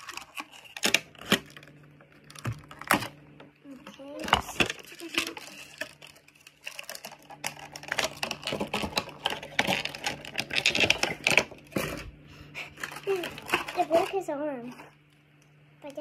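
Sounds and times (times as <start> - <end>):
plastic packaging crackling: 0.0 - 15.0.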